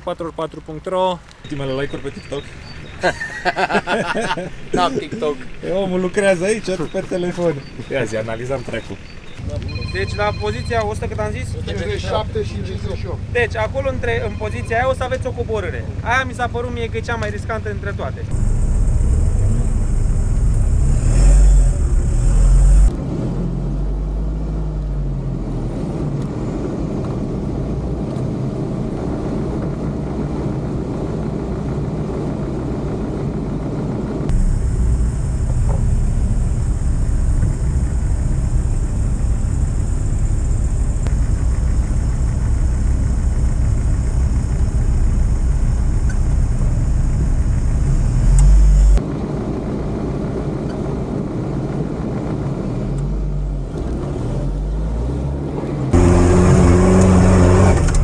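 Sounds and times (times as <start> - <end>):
engine running at low revs: 1.6 - 58.0.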